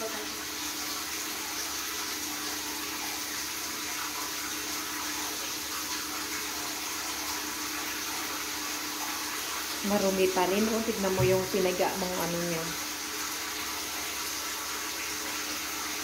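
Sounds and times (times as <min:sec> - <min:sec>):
shower water running: 0:00.0 - 0:16.0.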